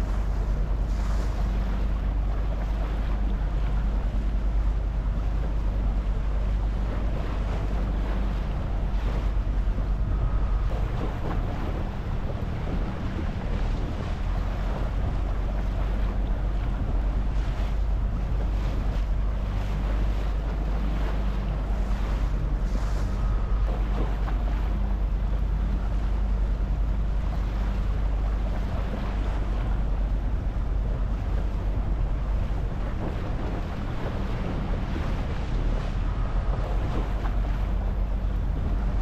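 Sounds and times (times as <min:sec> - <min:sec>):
boat engine droning: 0:00.0 - 0:39.0
water splashing against hull: 0:00.0 - 0:39.0
wind buffeting microphone: 0:00.0 - 0:39.0.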